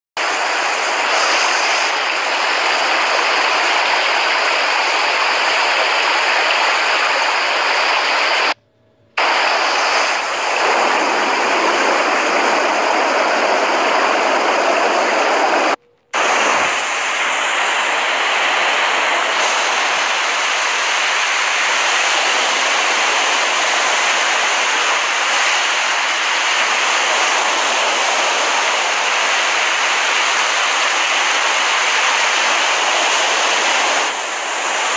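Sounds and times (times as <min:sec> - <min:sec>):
ocean waves washing on beach: 0:00.2 - 0:08.6, 0:09.2 - 0:34.9.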